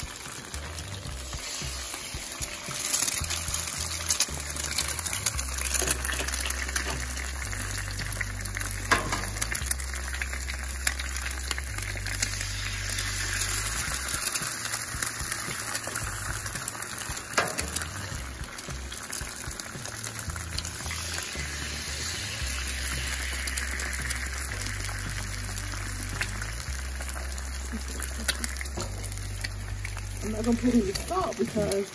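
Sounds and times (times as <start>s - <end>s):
background music with bass: 0.0s - 31.9s
eggs sizzling on a griddle: 0.0s - 31.9s.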